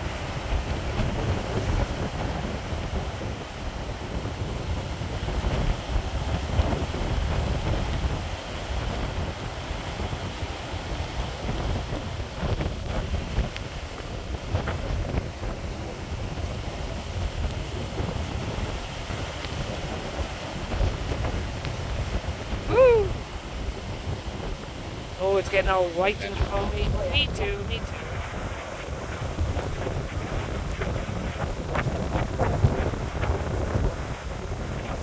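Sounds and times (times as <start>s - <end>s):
storm waves breaking over rocks: 0.0s - 35.0s
wind buffeting microphone: 0.0s - 35.0s.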